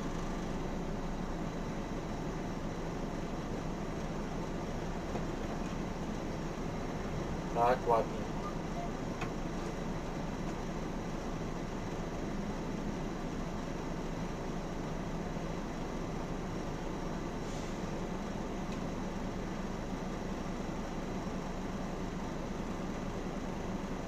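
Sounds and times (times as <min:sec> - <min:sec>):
bus diesel engine idling: 0:00.0 - 0:24.0.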